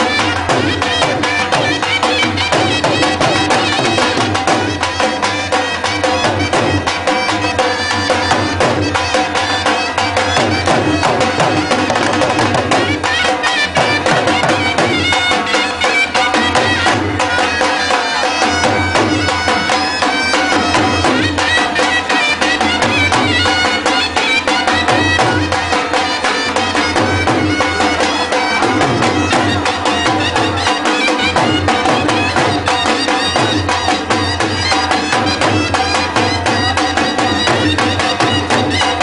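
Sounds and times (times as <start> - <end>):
folk dance music: 0.0 - 39.0.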